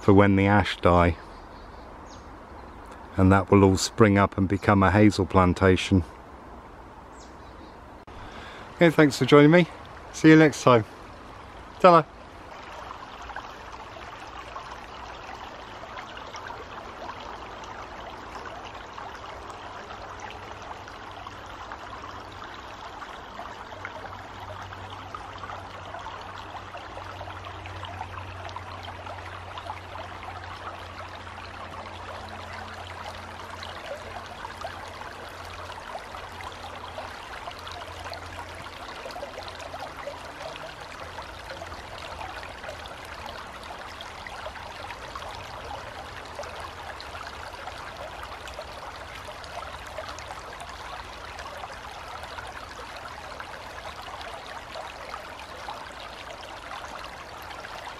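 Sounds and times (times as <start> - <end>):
stream flowing over stones: 0.0 - 1.3, 1.9 - 7.2, 7.8 - 57.9.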